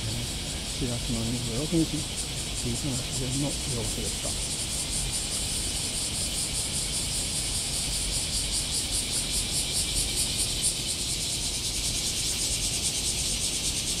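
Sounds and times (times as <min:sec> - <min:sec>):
cicadas singing: 0:00.0 - 0:14.0.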